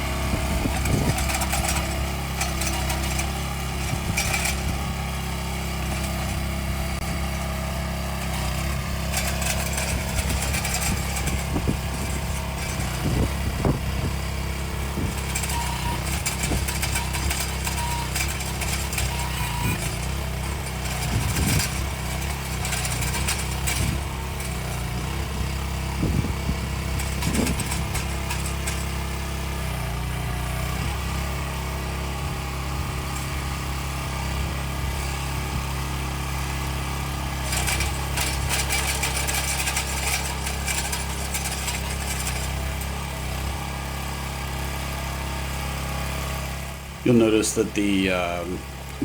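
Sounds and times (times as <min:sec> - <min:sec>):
harsh machinery noise: 0:00.0 - 0:49.0
machinery engine running: 0:00.0 - 0:49.0.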